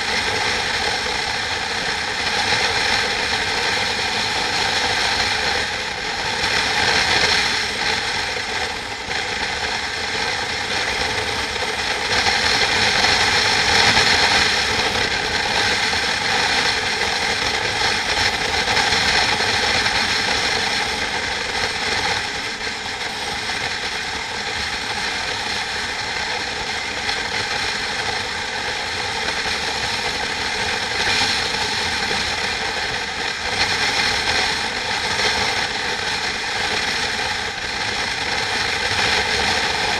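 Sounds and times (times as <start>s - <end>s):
rattling mechanical whir: 0.0s - 39.9s.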